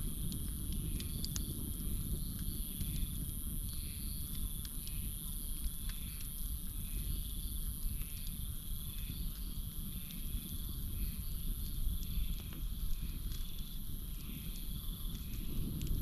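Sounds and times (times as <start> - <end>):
campfire crackling: 0.0 - 16.0
crickets trilling: 0.0 - 16.0.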